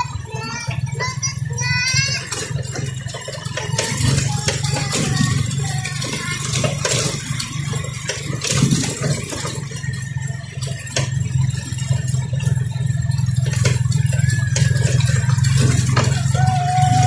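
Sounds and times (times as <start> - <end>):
bike rattles and knocks: 0.0 - 17.0
motorcycle engine running: 0.0 - 17.0.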